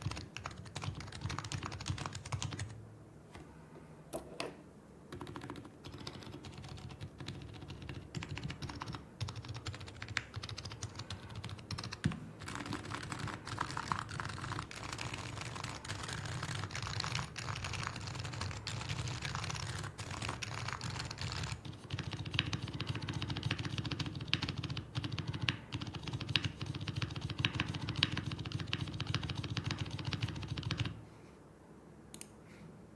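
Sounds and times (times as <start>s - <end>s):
fast keyboard typing: 0.0s - 2.8s, 5.1s - 31.0s.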